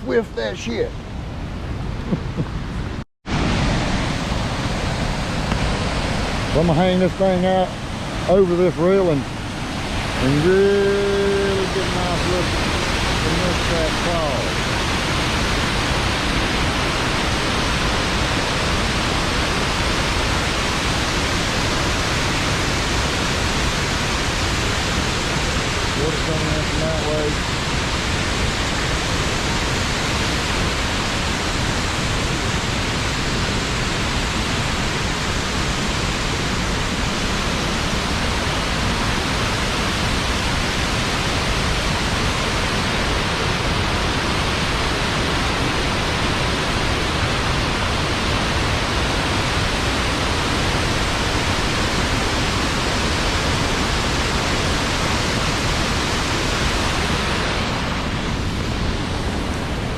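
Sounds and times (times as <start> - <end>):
waterfall roar: 0.1 - 59.9.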